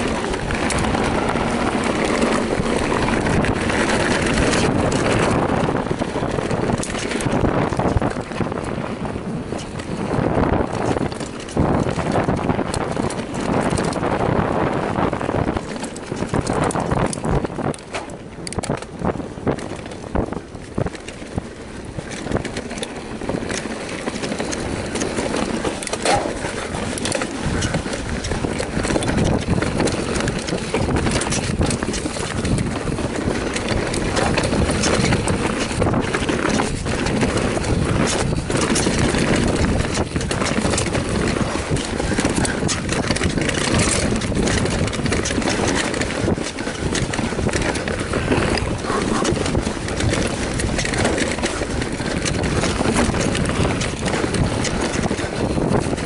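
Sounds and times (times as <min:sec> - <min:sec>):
bike rattling over bumps: 0:00.0 - 0:56.0
bike tyre noise: 0:00.0 - 0:56.0
wind on microphone: 0:00.0 - 0:56.0.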